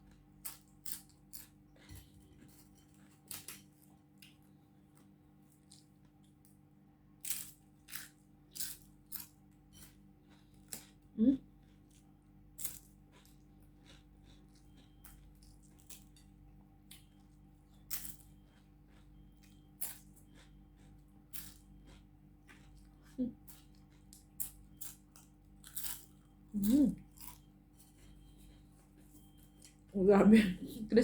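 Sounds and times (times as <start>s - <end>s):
flatbread crunching: 0.0s - 30.0s.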